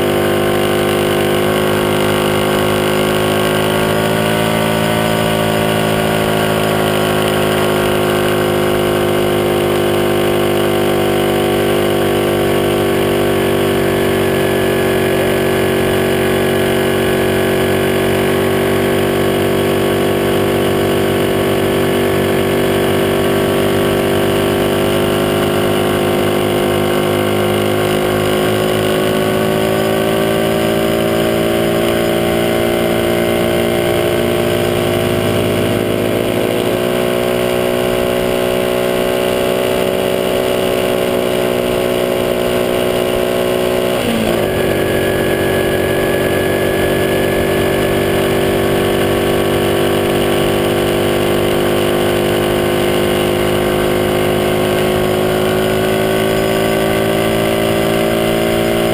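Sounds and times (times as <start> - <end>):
small motorcycle engine running: 0.0 - 58.9.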